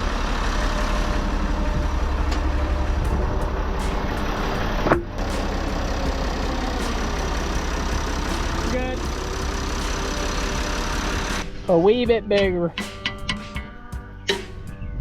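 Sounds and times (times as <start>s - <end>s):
large engine idling: 0.0s - 12.9s.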